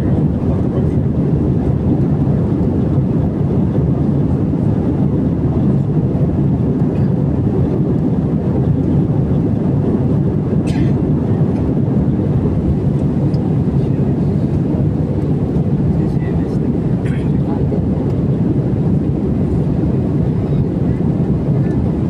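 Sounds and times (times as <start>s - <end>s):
airliner cabin engine rush: 0.0s - 22.0s.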